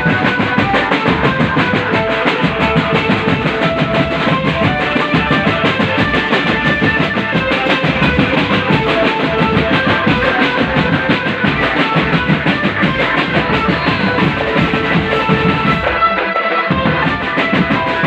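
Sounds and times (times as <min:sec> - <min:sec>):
band melody of short held notes: 0:00.0 - 0:18.0
fast drumming: 0:00.0 - 0:18.0.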